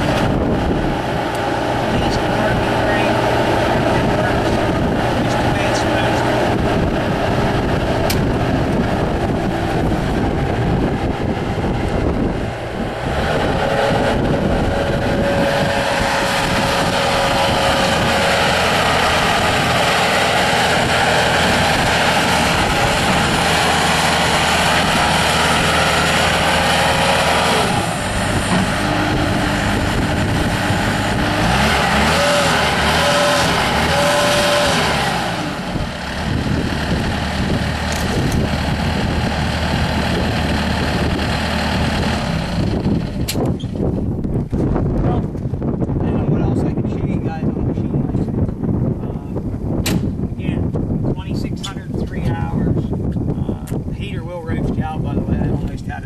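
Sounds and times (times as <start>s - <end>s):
diesel engine running: 0.0s - 56.0s
steady whine: 0.0s - 56.0s.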